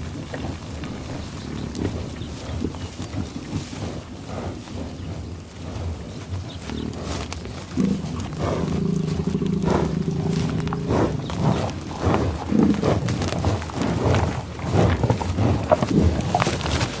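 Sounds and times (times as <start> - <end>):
bison growling: 0.0 - 17.0
bison huffs: 0.0 - 17.0.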